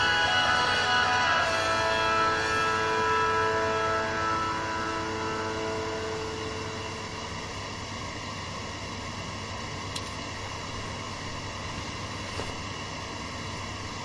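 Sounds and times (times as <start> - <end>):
microphone hiss with low hum: 0.0 - 14.0.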